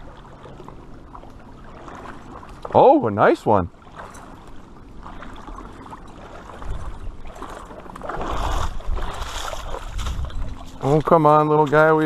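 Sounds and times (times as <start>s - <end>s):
river water splashing and rushing: 0.0s - 12.0s.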